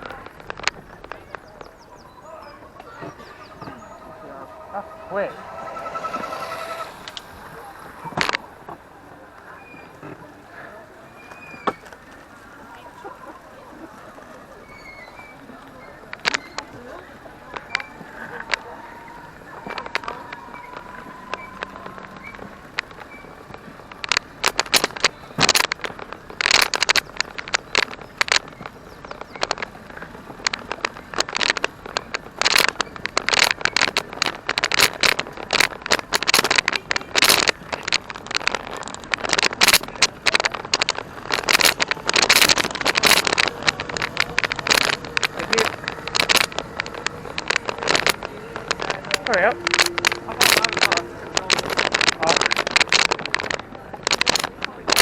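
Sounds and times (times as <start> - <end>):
loud crackles and scrapes: 0.0 - 55.0.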